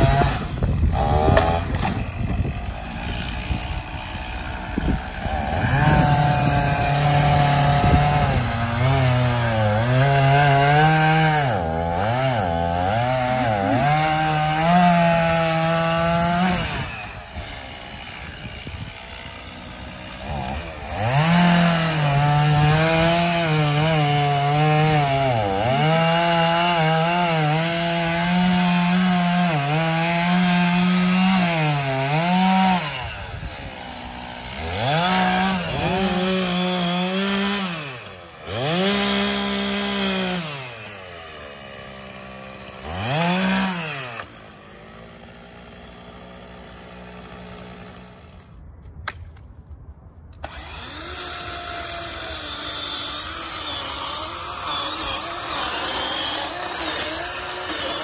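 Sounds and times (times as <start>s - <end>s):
chainsaw revving and idling: 0.0s - 48.6s, 50.4s - 58.0s.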